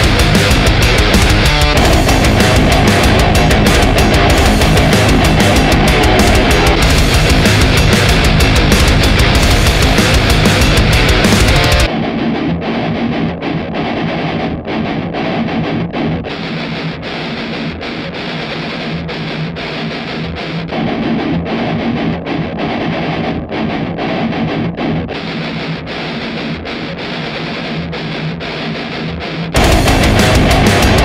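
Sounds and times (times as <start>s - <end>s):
distorted electric guitar riff: 0.0s - 31.0s.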